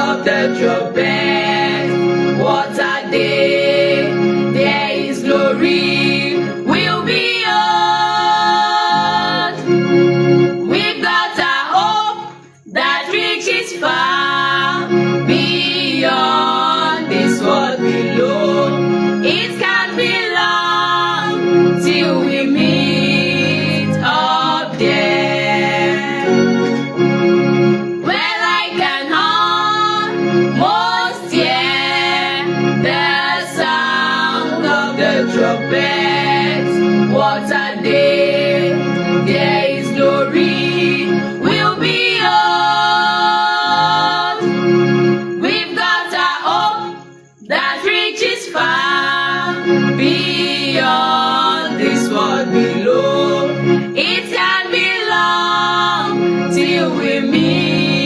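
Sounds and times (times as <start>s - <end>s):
gospel singing: 0.0s - 58.0s
sustained organ: 0.0s - 58.0s.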